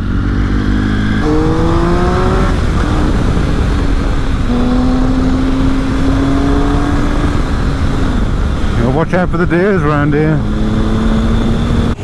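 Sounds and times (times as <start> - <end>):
motorcycle engine accelerating: 0.0 - 12.0
wind rush: 0.0 - 12.0.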